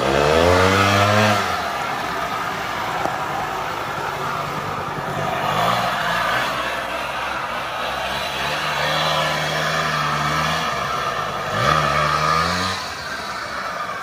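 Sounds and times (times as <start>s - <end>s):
quad bike engine revving: 0.0s - 14.0s.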